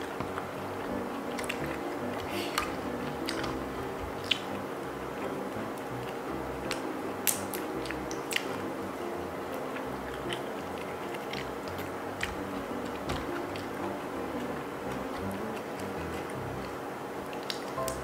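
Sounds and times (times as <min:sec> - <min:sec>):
person biting and chewing: 0:00.0 - 0:04.6, 0:05.8 - 0:08.7, 0:09.5 - 0:18.0.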